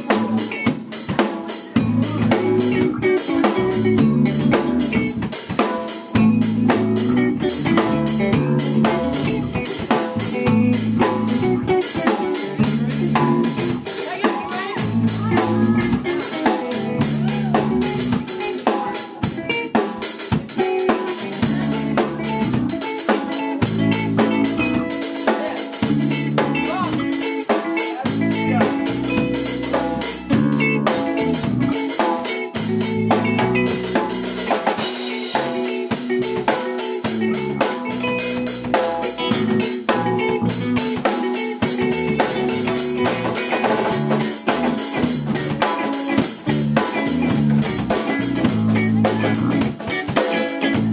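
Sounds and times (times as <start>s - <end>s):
bass guitar: 0.0s - 50.9s
drum kit beat: 0.0s - 50.9s
electric guitar: 0.0s - 50.9s.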